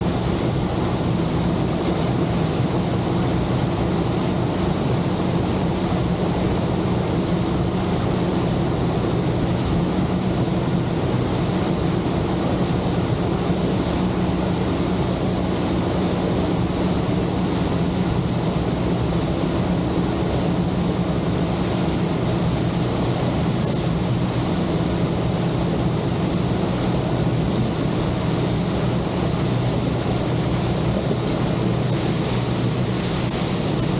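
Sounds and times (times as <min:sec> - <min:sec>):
outboard motor running: 0:00.0 - 0:33.9
water rushing along hull: 0:00.0 - 0:33.9.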